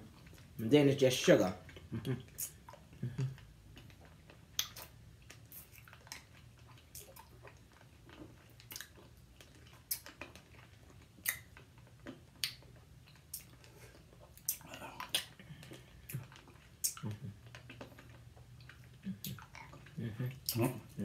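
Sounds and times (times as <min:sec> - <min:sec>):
low steady hum: 0:00.0 - 0:21.0
wet mouth clicks and lip smacks: 0:01.7 - 0:20.6.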